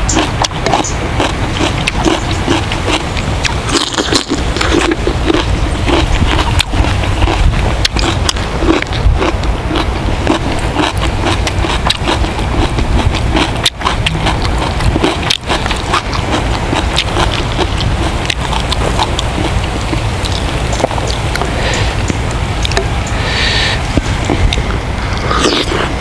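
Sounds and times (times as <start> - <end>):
steady low rumble: 0.0 - 26.0
chewing and wet mouth clicks: 0.1 - 22.9, 24.2 - 25.9.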